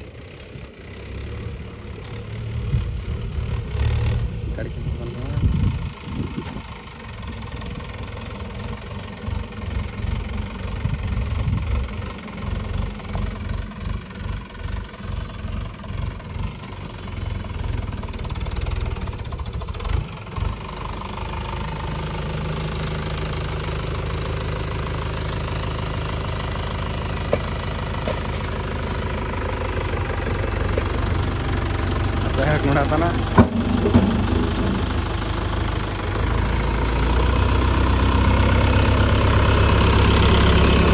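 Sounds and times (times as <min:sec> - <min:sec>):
tractor diesel engine knocking: 0:00.0 - 0:40.9.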